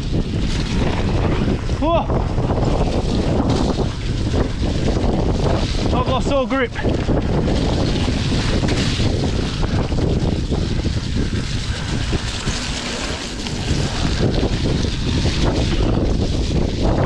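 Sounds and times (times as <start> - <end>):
bike clattering over bumps: 0.0 - 17.0
wind rushing over microphone: 0.0 - 17.0
tyres rolling on dirt: 0.3 - 17.0.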